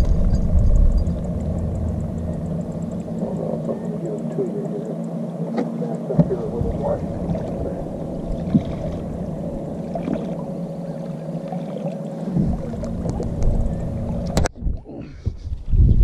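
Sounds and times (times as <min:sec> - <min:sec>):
boat motor humming: 0:00.0 - 0:15.5
hull rumbling on water: 0:00.0 - 0:16.0.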